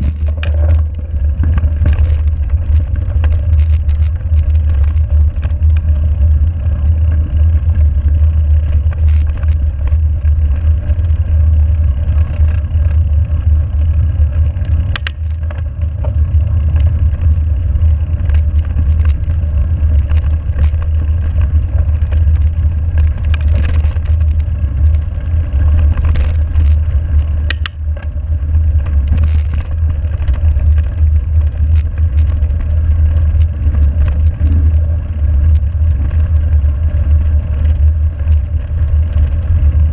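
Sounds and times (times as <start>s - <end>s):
bike clicks and rattles: 0.0s - 39.9s
bike tyres on gravel: 0.0s - 39.9s
wind rumble: 0.0s - 39.9s.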